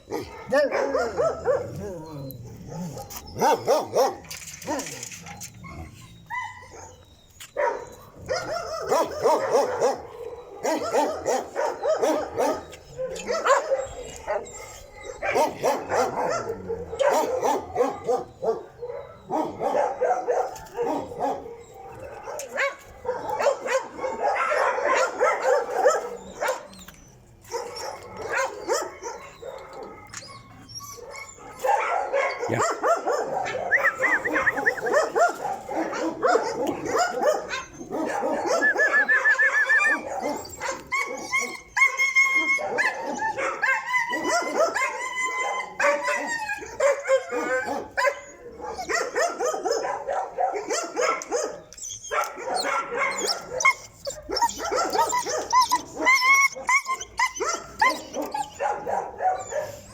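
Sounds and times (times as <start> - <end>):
dogs barking yelping and whining: 0.0 - 59.9.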